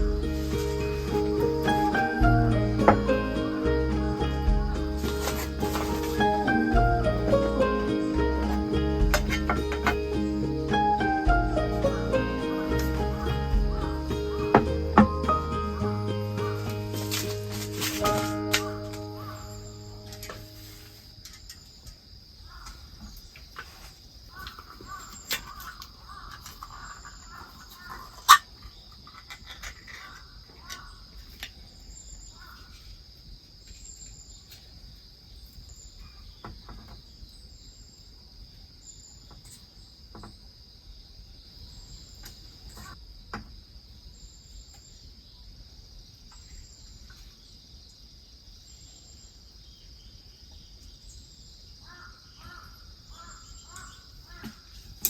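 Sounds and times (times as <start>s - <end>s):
crickets chorus: 0.0s - 55.0s.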